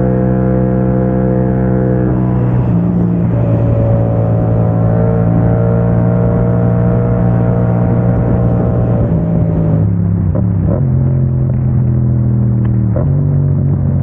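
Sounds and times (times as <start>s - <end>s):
motorcycle engine cruising: 0.0s - 14.0s
road and wind noise: 0.0s - 14.0s.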